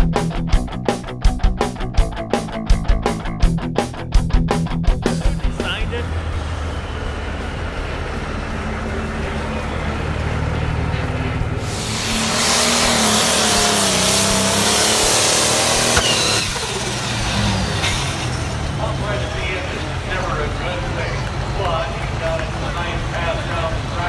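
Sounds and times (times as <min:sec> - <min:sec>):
vehicle engine revving: 0:00.0 - 0:24.0.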